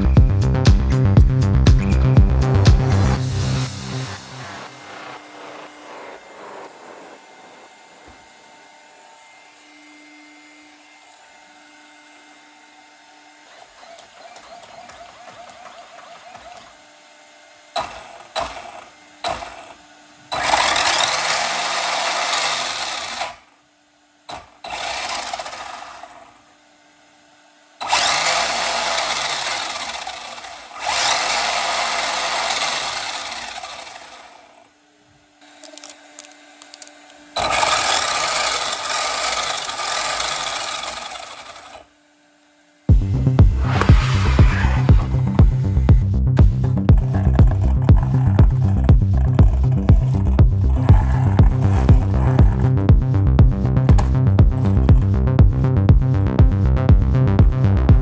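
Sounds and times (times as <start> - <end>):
electric motor revving: 1.4 - 56.2.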